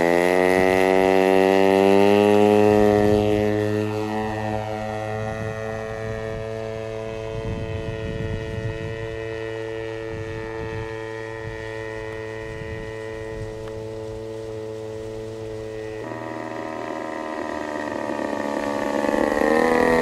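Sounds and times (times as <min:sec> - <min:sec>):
model airplane engine droning: 0:00.0 - 0:20.0.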